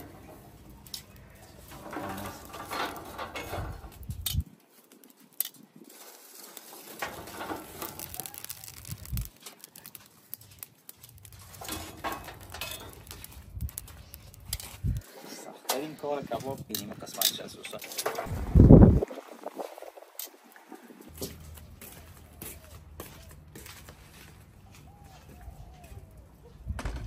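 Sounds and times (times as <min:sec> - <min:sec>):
tongs raking charcoal in metal firebox: 0:00.0 - 0:21.9.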